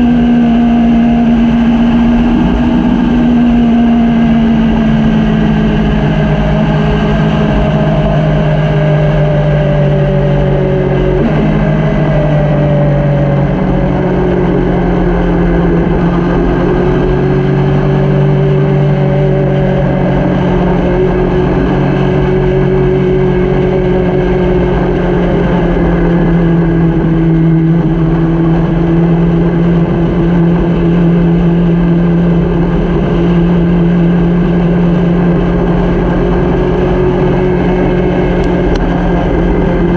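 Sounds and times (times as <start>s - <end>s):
motorcycle engine running: 0.0s - 39.9s
rushing road noise: 0.0s - 39.9s.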